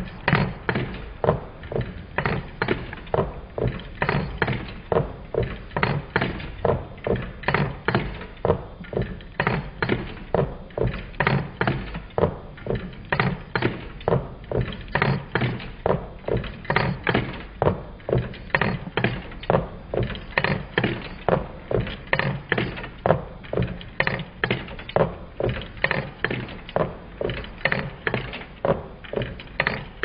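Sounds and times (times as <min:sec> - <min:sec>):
stirling engine knocking clunks: 0:00.0 - 0:30.0.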